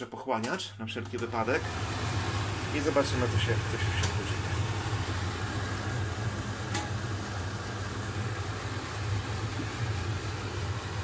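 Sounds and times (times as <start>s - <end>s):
extractor fan humming: 0.8s - 11.0s.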